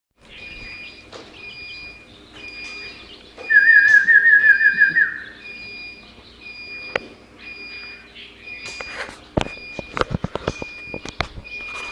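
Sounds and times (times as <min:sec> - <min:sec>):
bird warbling trill: 0:00.2 - 0:11.9.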